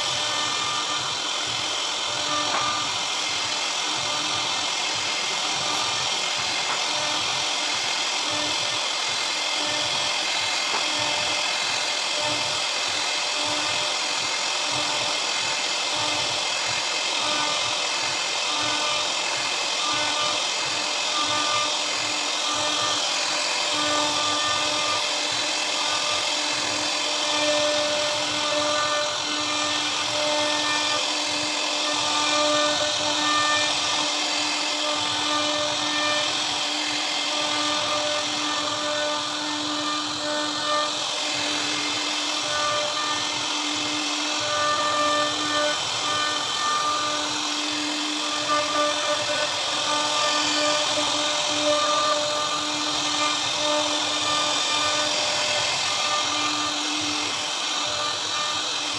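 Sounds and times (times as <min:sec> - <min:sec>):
router spindle whine: 0:00.0 - 0:58.9
wood cutting hiss: 0:00.0 - 0:58.9.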